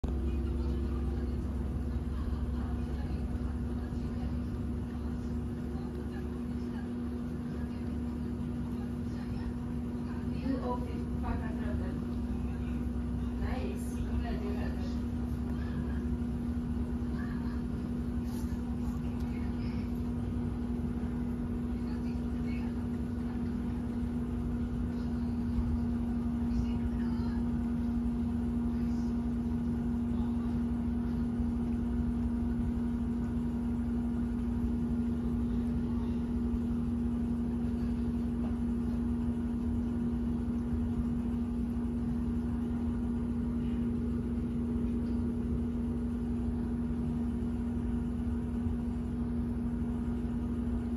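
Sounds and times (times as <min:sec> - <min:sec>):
low mechanical drone: 0:00.0 - 0:50.9.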